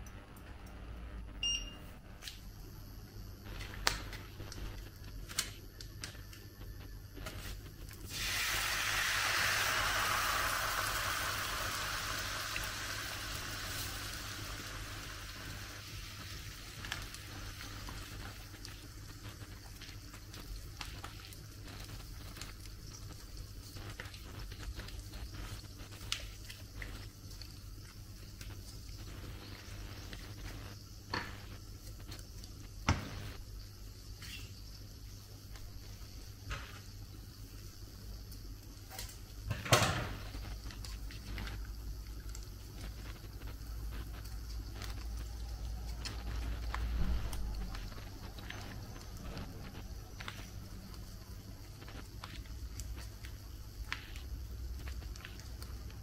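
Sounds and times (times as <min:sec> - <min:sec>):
food sizzling in a hot pan: 0:03.5 - 0:56.0.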